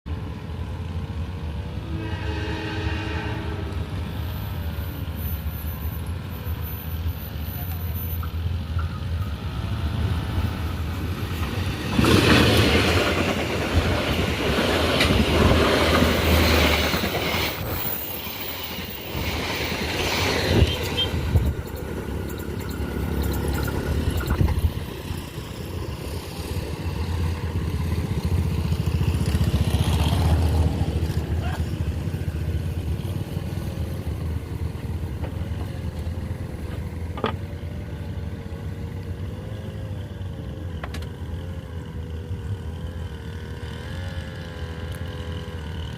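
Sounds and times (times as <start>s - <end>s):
train rumbling on rails: 0.1s - 45.9s.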